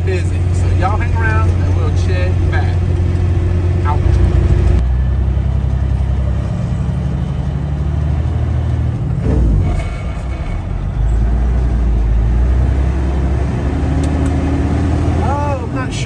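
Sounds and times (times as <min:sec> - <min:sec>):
road noise: 0:00.0 - 0:16.0
truck diesel engine drone: 0:00.0 - 0:16.0.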